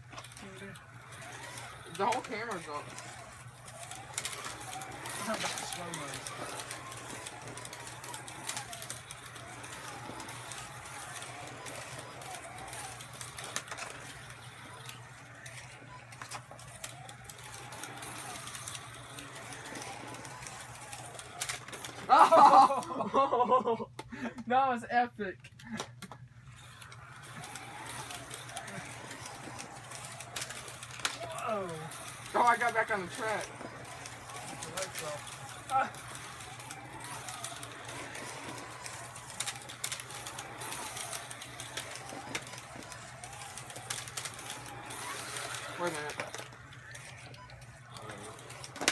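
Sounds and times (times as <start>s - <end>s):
slot car motor whine: 0.0s - 23.3s, 26.1s - 48.9s.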